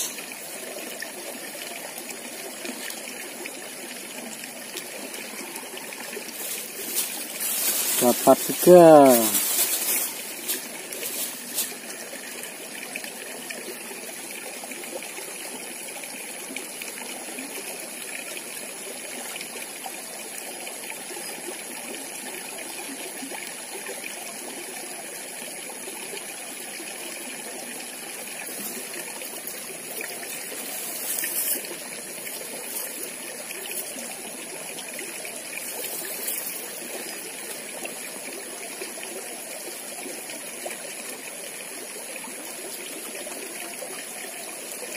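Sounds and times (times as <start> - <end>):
stream trickling over stones: 0.0 - 44.9.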